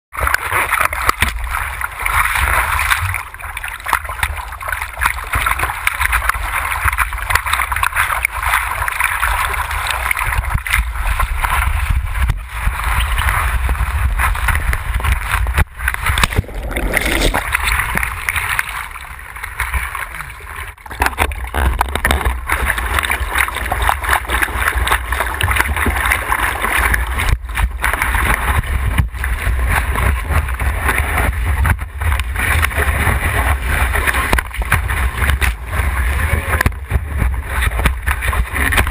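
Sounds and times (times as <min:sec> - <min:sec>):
water rushing and splashing: 0:00.1 - 0:38.9.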